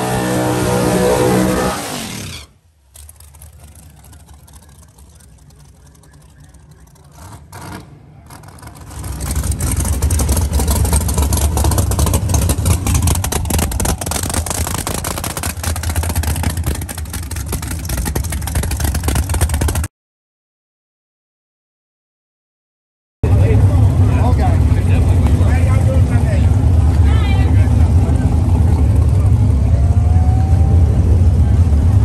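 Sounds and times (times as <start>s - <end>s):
drag car engine idling: 2.8s - 19.9s, 23.2s - 32.0s.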